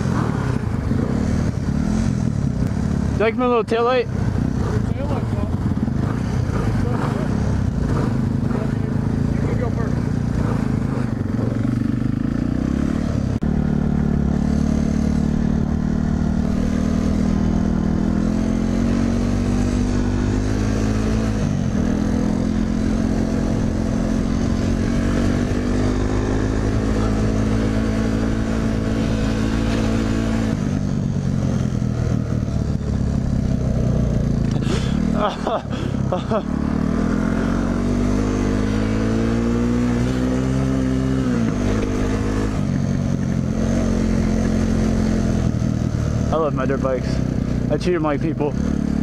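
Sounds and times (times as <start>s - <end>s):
motorcycle engine shifting gears: 0.0s - 49.0s.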